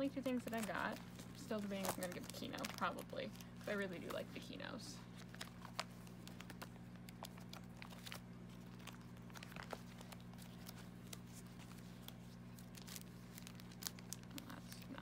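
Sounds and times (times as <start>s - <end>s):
plastic sleeves crinkling: 0.0s - 15.0s
steady low hum: 0.0s - 15.0s.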